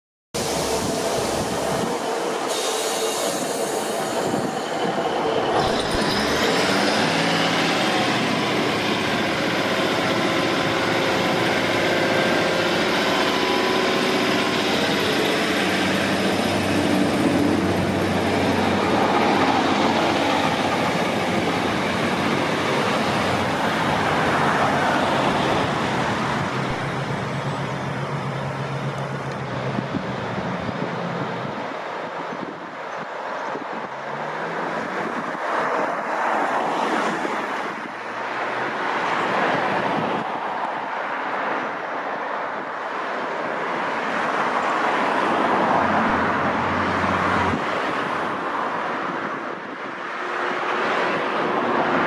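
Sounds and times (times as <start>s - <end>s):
diesel train engines working: 0.4s - 52.0s
train coaches rolling on rails: 0.4s - 52.0s.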